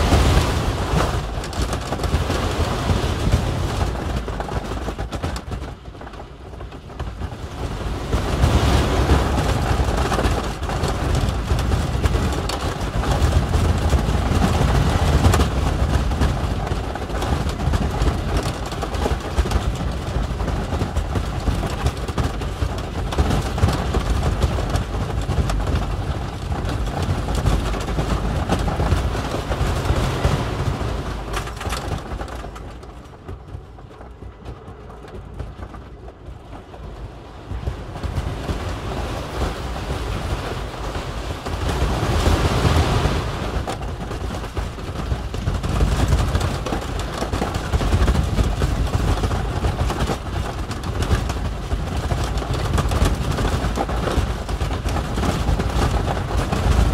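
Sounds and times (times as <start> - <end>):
roller coaster rumbling on wooden track: 0.0 - 56.9.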